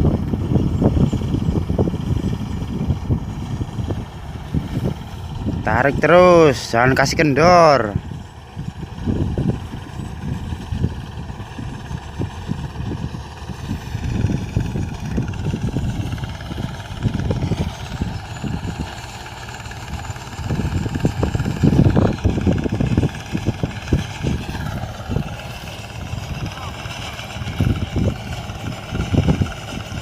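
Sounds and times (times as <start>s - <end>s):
harvester engine humming: 0.0s - 30.0s
low rumbling gusts: 0.0s - 30.0s.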